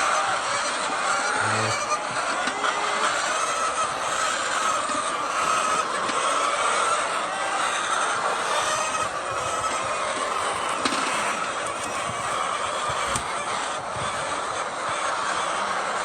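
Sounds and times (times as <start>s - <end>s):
flock of chickens clucking: 0.0s - 16.0s.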